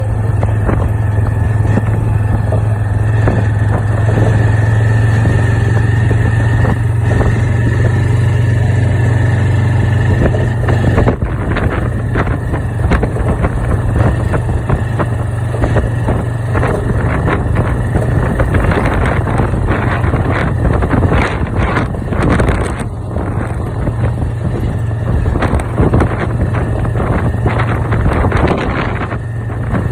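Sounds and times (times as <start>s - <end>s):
engine running with whine: 0.0s - 29.9s.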